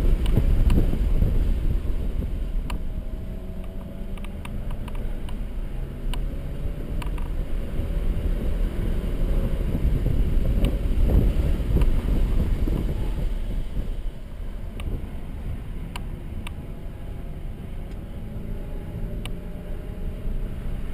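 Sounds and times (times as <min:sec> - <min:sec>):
car engine running: 0:00.0 - 0:20.9
tyre and road noise: 0:00.0 - 0:20.9.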